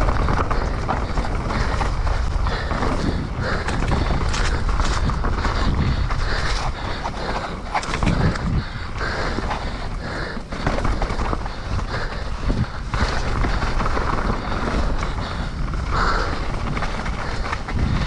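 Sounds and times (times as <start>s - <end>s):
tyres rumbling on rough trail: 0.0s - 18.0s
wind on microphone: 0.0s - 18.0s.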